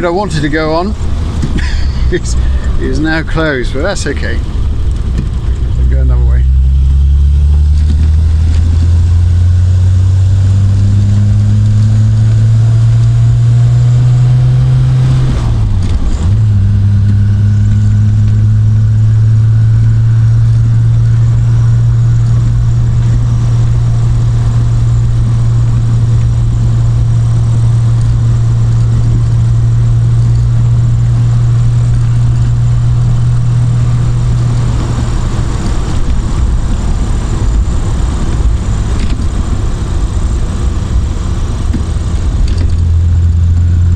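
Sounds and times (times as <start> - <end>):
car engine driving: 0.0 - 43.9.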